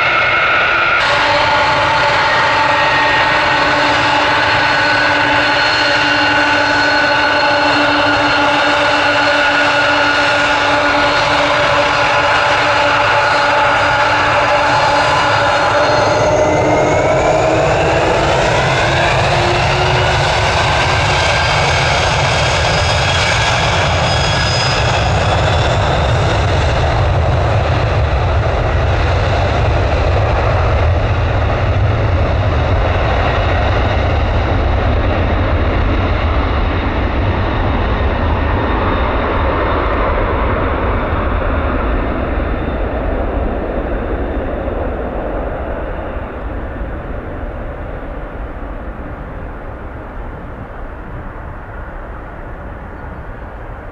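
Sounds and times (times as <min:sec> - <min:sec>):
deep jet engine rumble: 0:00.0 - 0:53.9
jet engines whining: 0:00.0 - 0:53.9.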